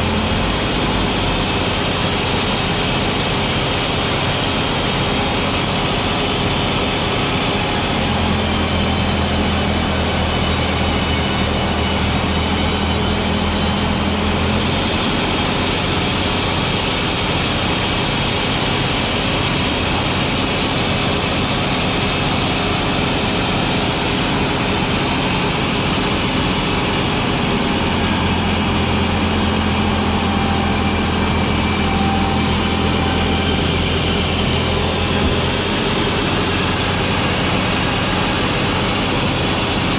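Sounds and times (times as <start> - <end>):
saw cutting through wood: 0.0 - 39.9
sawmill engine humming: 0.0 - 39.9.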